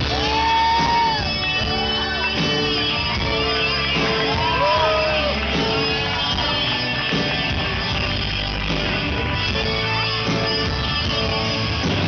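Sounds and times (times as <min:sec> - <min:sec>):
drums: 0:00.0 - 0:12.0
guitars: 0:00.0 - 0:12.0
live pop-rock band playing: 0:00.0 - 0:12.0.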